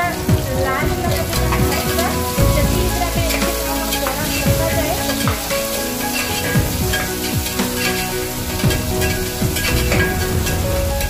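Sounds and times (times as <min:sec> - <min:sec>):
onions sizzling in a pot: 0:00.0 - 0:11.0
spatula stirring: 0:01.3 - 0:10.6.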